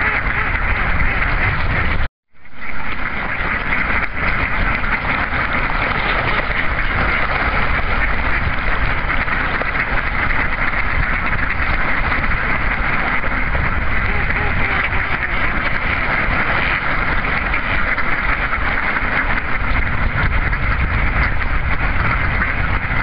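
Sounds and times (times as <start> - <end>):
ducks calling: 0.0 - 23.0
ducks splashing in water: 0.0 - 23.0.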